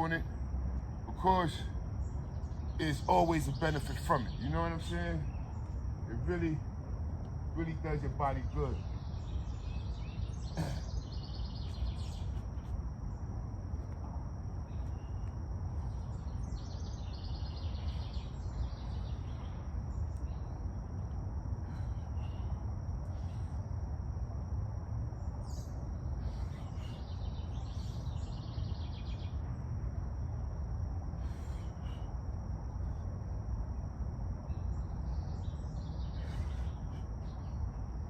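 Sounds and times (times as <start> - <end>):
birds chirping: 0.0 - 30.0, 31.0 - 38.0
steady low rumble: 0.0 - 38.0.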